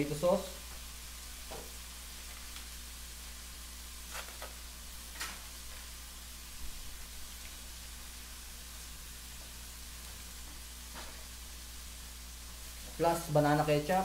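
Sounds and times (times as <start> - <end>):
faint sizzling in a wok: 0.0 - 14.0.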